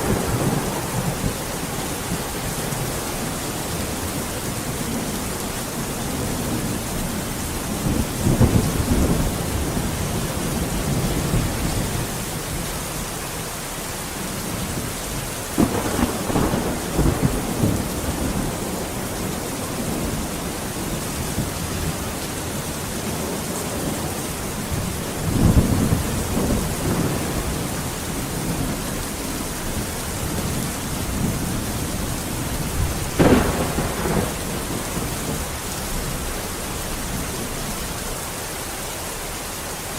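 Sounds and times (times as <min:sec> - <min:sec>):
thunder rumbling: 0:00.0 - 0:13.2, 0:14.2 - 0:38.1
heavy rain falling: 0:00.0 - 0:39.9.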